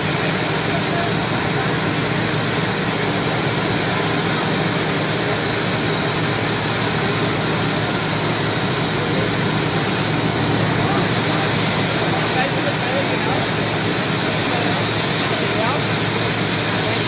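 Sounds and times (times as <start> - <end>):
helicopter engine and rotor running: 0.0 - 17.0.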